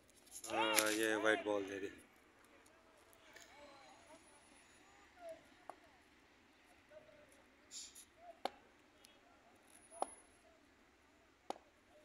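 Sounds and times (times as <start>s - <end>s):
faint open-air background: 0.0s - 12.0s.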